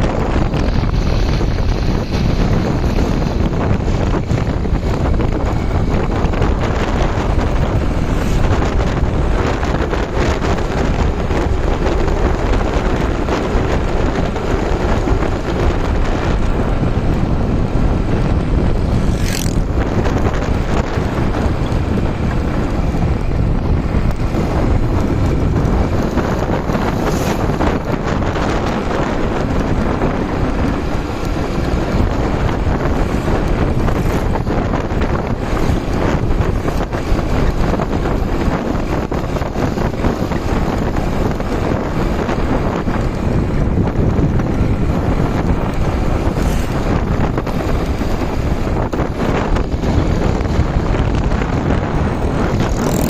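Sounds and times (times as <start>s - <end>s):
motorcycle engine: 0.0s - 53.0s
road noise: 0.0s - 53.0s
wind buffeting microphone: 0.0s - 53.0s.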